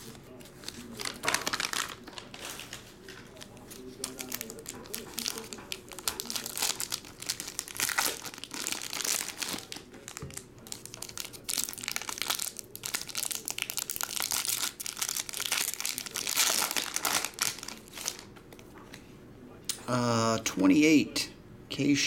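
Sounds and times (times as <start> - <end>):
plastic foil wrappers tearing: 0.0 - 18.3.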